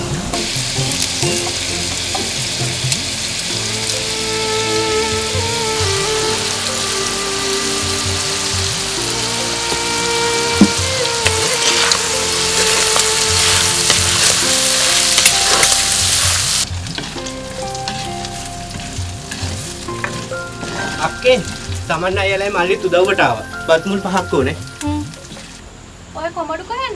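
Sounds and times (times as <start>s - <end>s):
food sizzling in hot oil: 0.0s - 25.6s.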